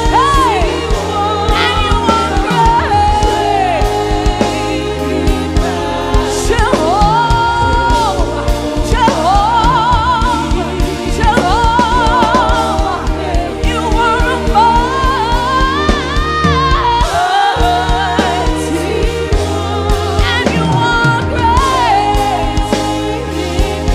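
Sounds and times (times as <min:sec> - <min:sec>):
band with bass and drums: 0:00.0 - 0:23.9
person singing with vibrato: 0:00.0 - 0:23.9.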